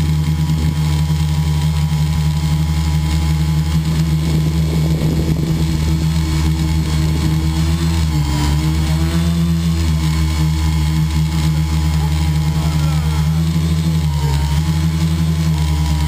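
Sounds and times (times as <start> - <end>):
model aircraft motor running: 0.0 - 16.0.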